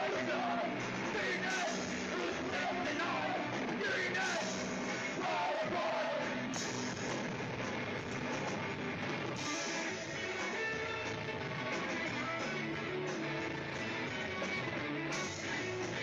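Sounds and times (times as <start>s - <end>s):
punk rock song with shouted vocals: 0.0s - 16.0s.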